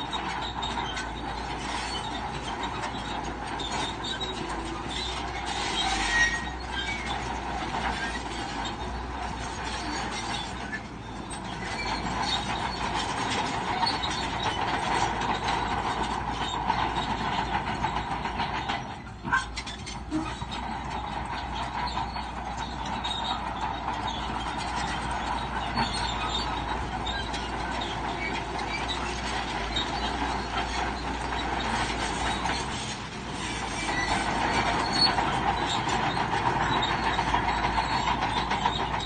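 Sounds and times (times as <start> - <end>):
bulldozer engine: 0.0 - 39.0
steel tracks clanking and squealing: 0.0 - 39.0.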